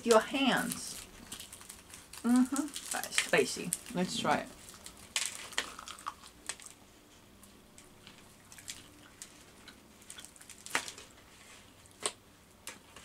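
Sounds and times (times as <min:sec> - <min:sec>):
crispy chicken chewing: 0:00.6 - 0:13.0.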